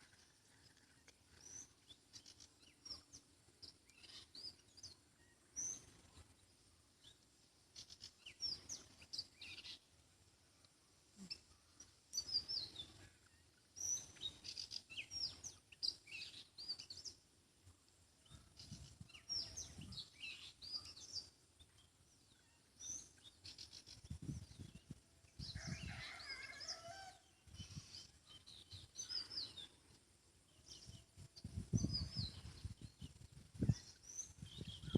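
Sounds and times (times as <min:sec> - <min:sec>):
small birds chirping: 0:00.0 - 0:10.0, 0:10.6 - 0:34.9.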